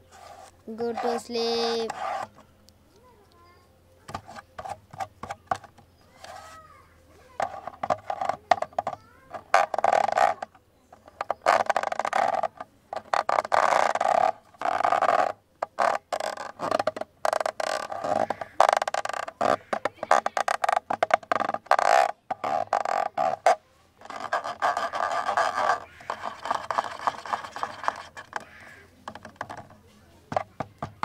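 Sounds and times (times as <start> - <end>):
scraping on camera body: 0.0 - 2.5, 4.1 - 31.0.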